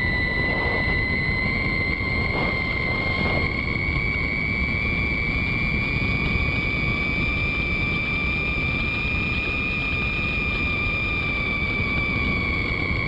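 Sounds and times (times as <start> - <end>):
electric motor whine: 0.0 - 13.0
wind noise: 0.0 - 13.0.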